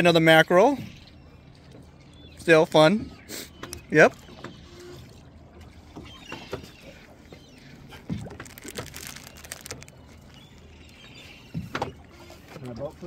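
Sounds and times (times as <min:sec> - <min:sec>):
seabirds calling: 0:00.0 - 0:13.0.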